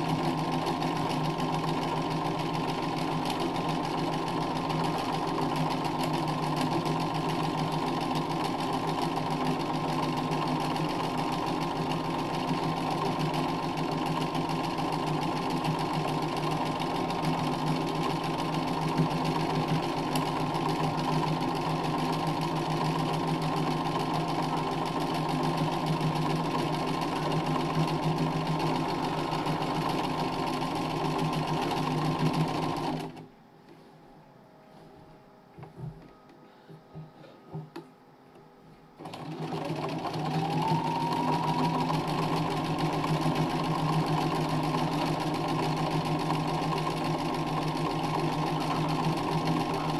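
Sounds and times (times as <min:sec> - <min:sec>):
sewing machine running: 0:00.0 - 0:33.2, 0:39.0 - 0:49.9.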